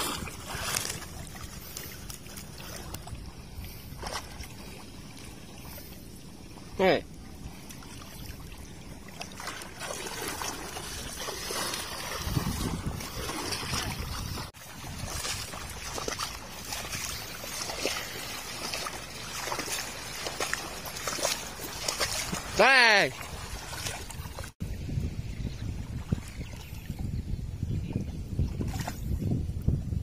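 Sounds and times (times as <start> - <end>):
water splashing and sloshing: 0.0 - 27.2, 28.0 - 29.9.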